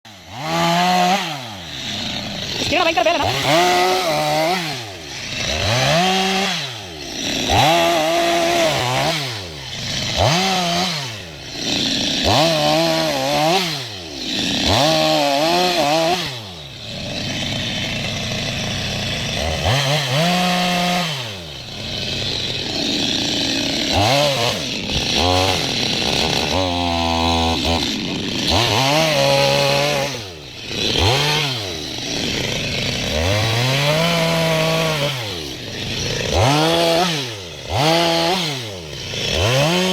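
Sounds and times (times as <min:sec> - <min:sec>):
chainsaw engine revving: 0:00.1 - 0:39.9.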